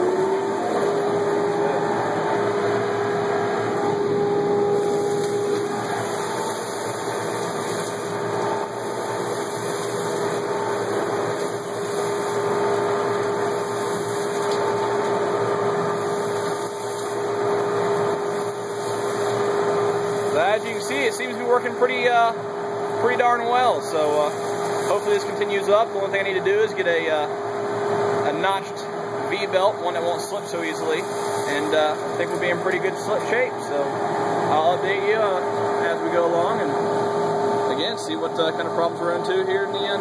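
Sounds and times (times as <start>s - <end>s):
dust collector whine: 0.0s - 40.0s.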